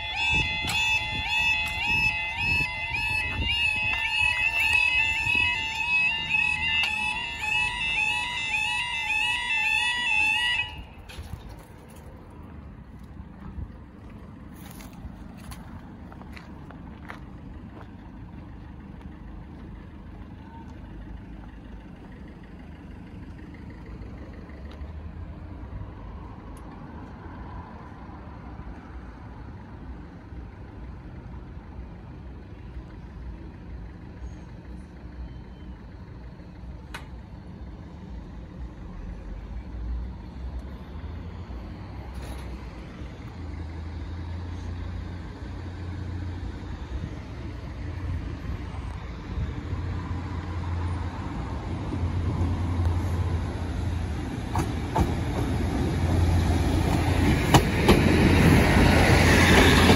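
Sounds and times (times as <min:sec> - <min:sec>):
train engine rumbling: 0:00.0 - 0:59.9.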